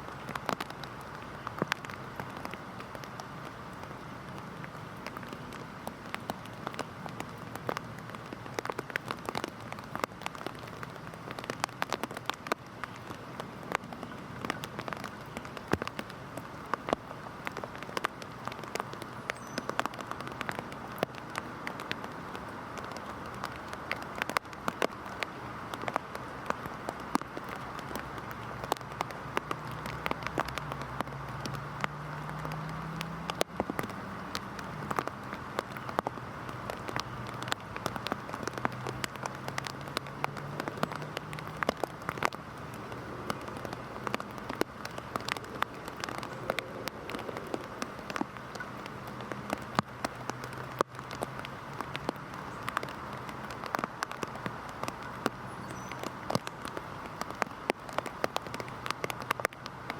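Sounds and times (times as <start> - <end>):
heavy rain: 0.0 - 59.9
raindrops striking a surface: 0.0 - 59.9.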